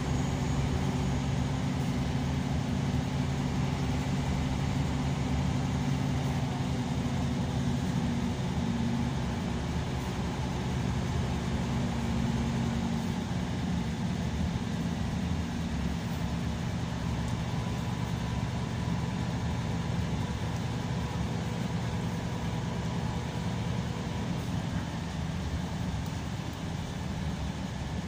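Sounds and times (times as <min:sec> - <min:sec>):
bus engine and road noise: 0:00.0 - 0:28.0.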